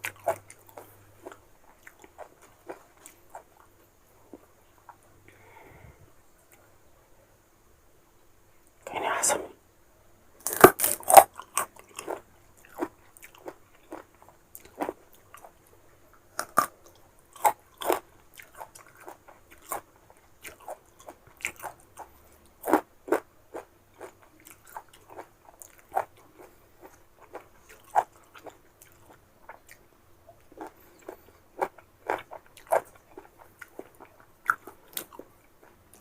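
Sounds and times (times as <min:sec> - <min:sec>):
crunchy chewing of fruit: 0:00.0 - 0:05.8, 0:10.4 - 0:36.0.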